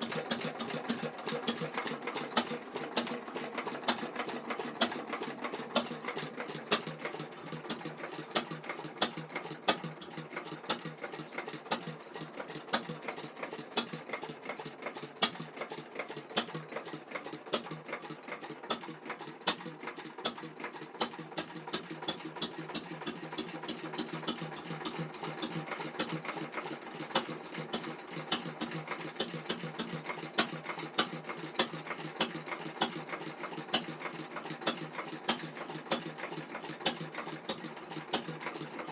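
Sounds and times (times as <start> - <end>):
stationary engine clattering: 0.0 - 38.9.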